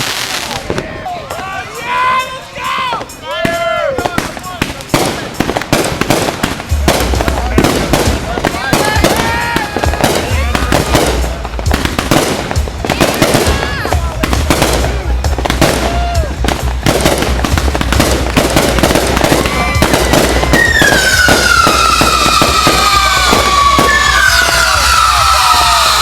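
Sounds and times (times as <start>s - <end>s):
fireworks crackling and banging: 0.0s - 26.0s
whistling firework: 0.0s - 26.0s.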